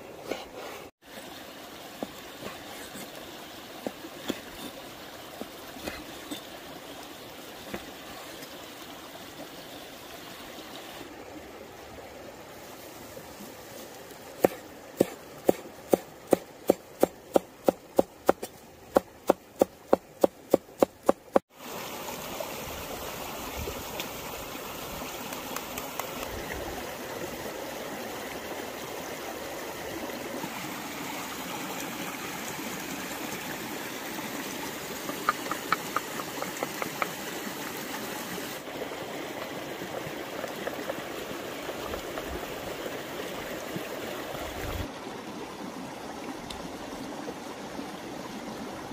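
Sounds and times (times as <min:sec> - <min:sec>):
stream running: 0:00.0 - 0:48.9.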